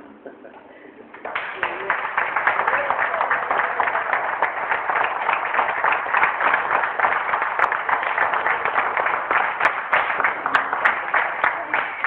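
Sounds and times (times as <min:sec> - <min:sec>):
crowd applauding: 0:01.1 - 0:12.0.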